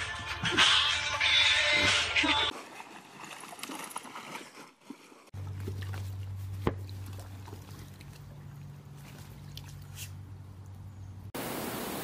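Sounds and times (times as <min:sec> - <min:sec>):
pool water trickling and lapping: 0:01.6 - 0:12.0.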